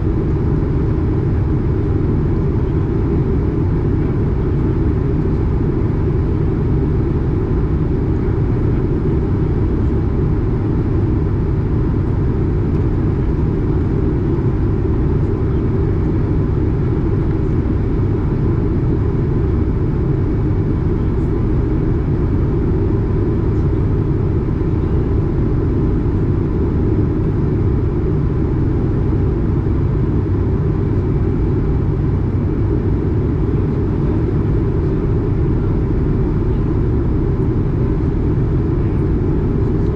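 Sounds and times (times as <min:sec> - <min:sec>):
airplane cabin engine rush: 0:00.0 - 0:39.9
faint steady whine: 0:00.0 - 0:39.9.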